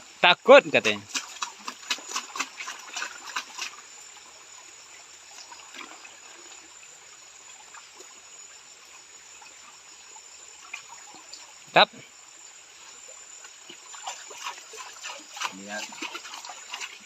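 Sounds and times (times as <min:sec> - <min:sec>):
high insect drone: 0:00.0 - 0:17.0
stream trickling: 0:00.0 - 0:17.0
water splashing in a pan: 0:00.5 - 0:08.3, 0:09.3 - 0:17.0.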